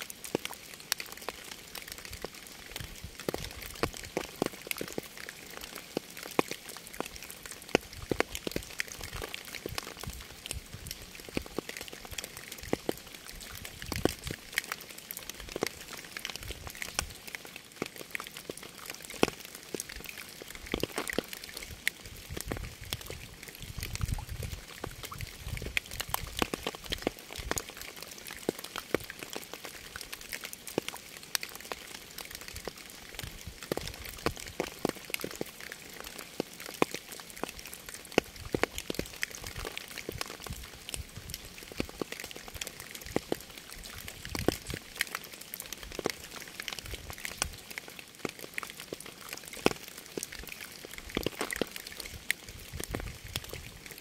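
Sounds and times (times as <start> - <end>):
raindrops ticking close by: 0.0 - 54.0.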